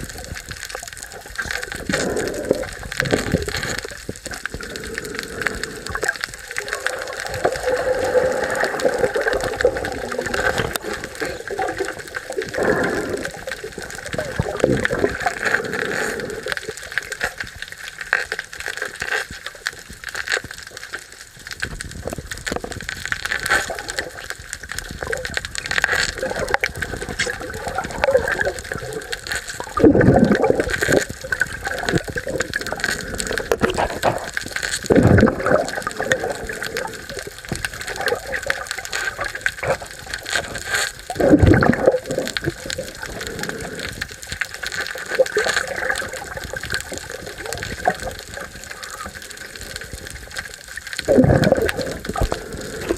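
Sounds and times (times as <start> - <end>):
underwater water rushing: 0.0 - 52.9.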